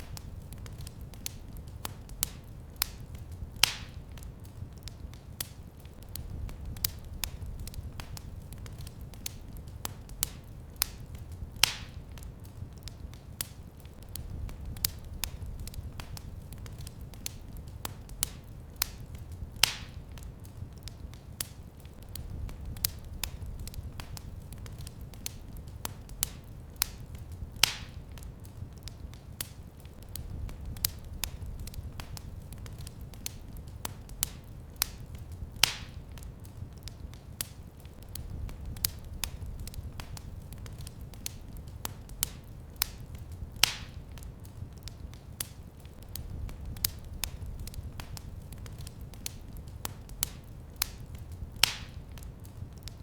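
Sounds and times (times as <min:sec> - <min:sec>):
fire popping: 0:00.0 - 0:53.0
wood fire crackling: 0:00.0 - 0:53.0.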